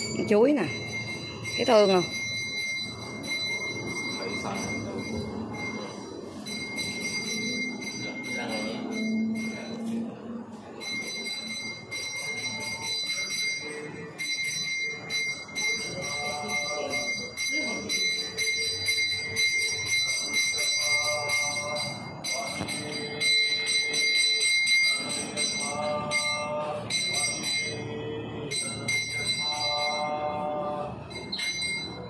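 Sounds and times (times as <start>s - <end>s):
temple bell ringing: 0.0s - 32.0s.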